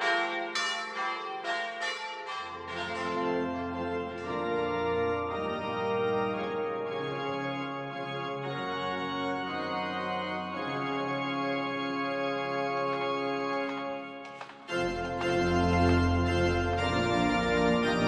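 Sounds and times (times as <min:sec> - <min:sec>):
organ playing slow chords: 0:02.6 - 0:18.0.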